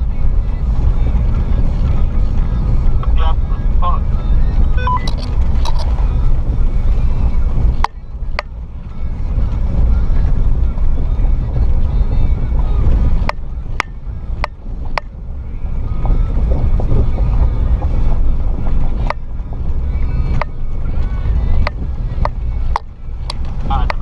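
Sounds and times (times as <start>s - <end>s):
off-road vehicle rumbling: 0.0s - 24.0s.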